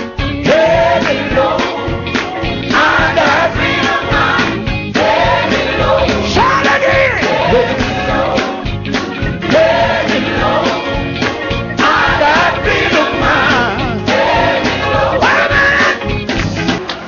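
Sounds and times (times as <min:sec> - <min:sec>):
band playing steady beat: 0:00.0 - 0:17.0.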